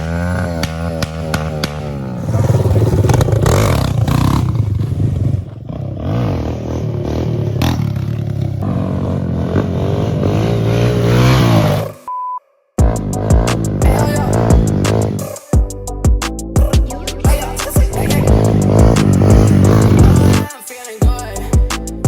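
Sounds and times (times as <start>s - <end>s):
motorbike engine revving: 0.0s - 12.1s, 12.8s - 15.4s, 17.3s - 20.5s.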